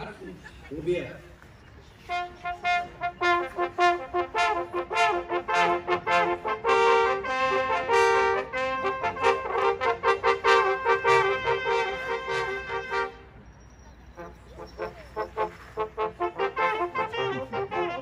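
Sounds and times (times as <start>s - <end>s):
brass hunting horns fanfare: 2.0s - 13.4s, 14.2s - 18.0s.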